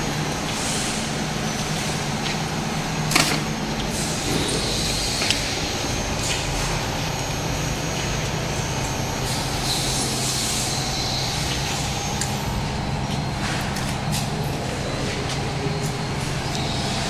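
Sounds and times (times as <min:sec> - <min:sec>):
labeling machine hum: 0:00.0 - 0:17.0.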